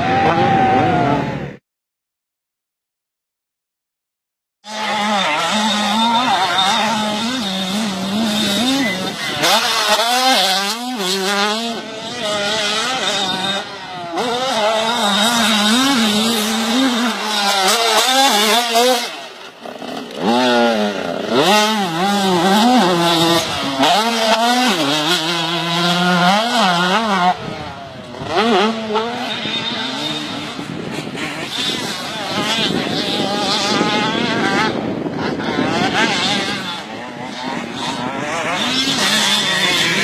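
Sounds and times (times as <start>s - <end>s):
motocross bike engine revving: 4.6s - 40.0s.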